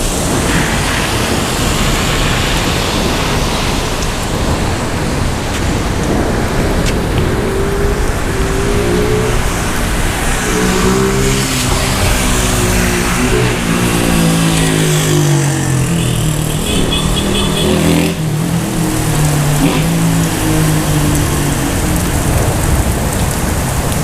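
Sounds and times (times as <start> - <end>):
heavy rain hiss: 0.0 - 24.0
passing traffic engines: 0.0 - 24.0.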